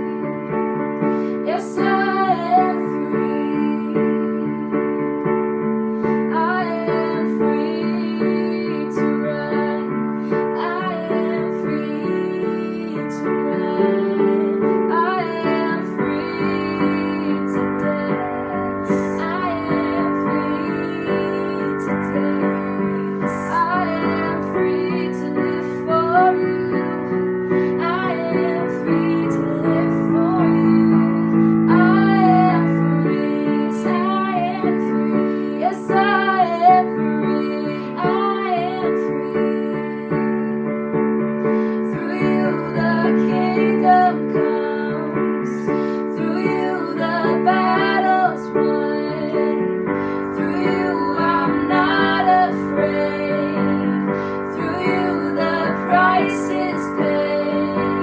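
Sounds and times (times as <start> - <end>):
keyboard and piano chords: 0.0 - 58.0
woman singing: 0.0 - 58.0.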